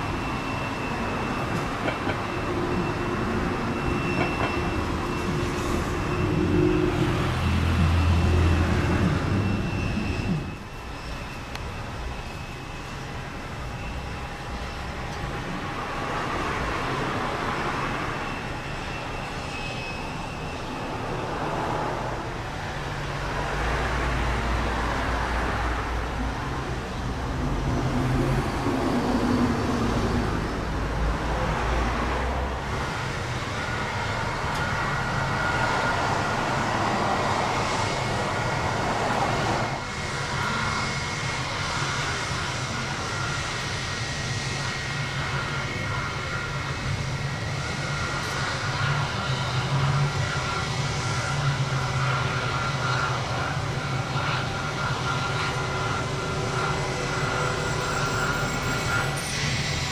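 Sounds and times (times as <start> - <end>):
faint high whine: 0.0 - 59.9
jet engines rumbling: 0.0 - 59.9.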